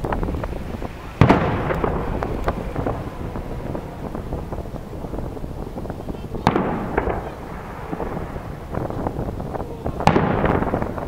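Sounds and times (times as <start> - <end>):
firework shell cracking: 0.0 - 11.0
low rumble of firework burst: 0.0 - 11.0
small crackles and pops: 0.0 - 11.0
wind noise on microphone: 0.0 - 11.0.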